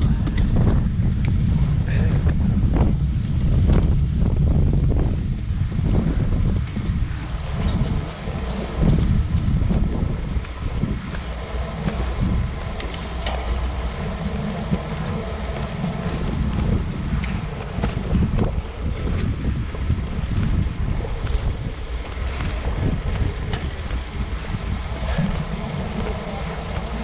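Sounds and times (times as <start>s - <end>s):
road noise: 0.0s - 27.0s
wind buffeting microphone: 0.0s - 27.0s.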